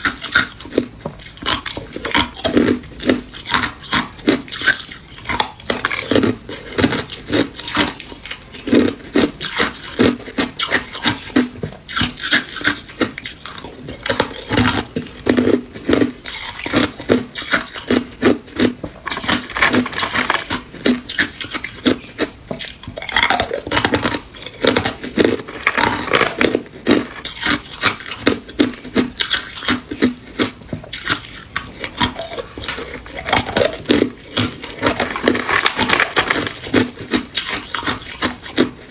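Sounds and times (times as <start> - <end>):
ice cubes crunching when chewed: 0.0 - 38.9.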